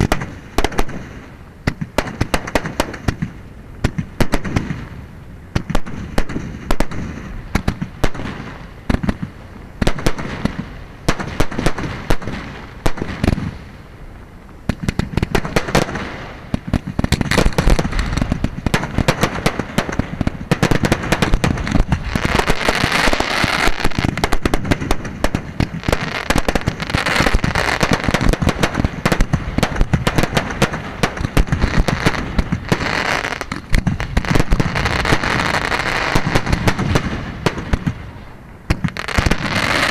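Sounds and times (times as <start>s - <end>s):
fireworks launching and bursting: 0.0s - 13.9s, 14.6s - 39.9s.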